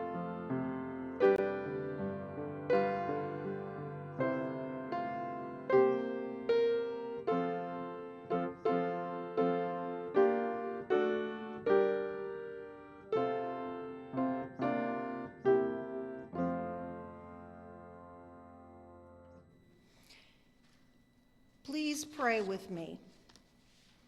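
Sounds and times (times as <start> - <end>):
piano playing slow chords: 0.0 - 20.2.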